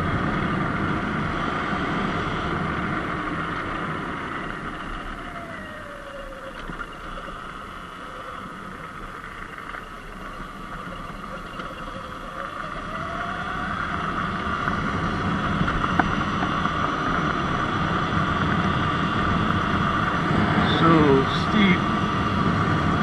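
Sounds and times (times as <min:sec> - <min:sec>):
electric motor whine: 0:00.0 - 0:23.0
rushing wind: 0:00.0 - 0:23.0.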